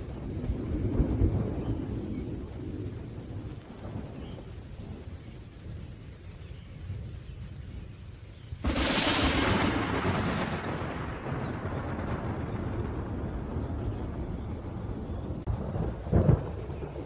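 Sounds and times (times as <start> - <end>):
rolling thunder: 0.0 - 7.9, 8.6 - 17.0
steady rain: 0.0 - 17.0.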